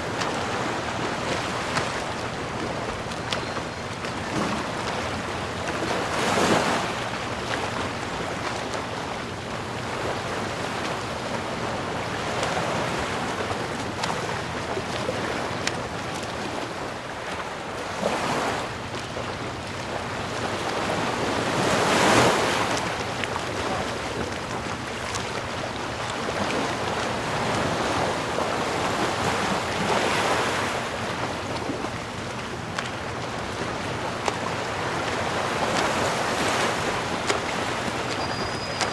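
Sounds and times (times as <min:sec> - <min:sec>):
ocean waves washing: 0:00.0 - 0:38.9
waves breaking: 0:00.0 - 0:38.9.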